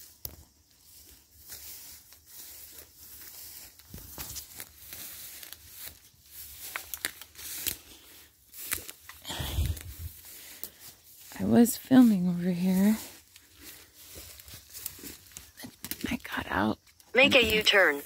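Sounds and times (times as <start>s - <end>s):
footsteps through dry grass and leaves: 0.0s - 16.1s.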